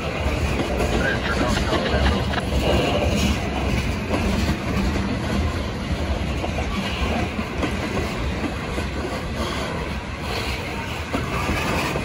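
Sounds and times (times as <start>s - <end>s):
train wheels rumbling on rails: 0.0s - 12.0s
wheels clicking over rail joints: 0.0s - 12.0s.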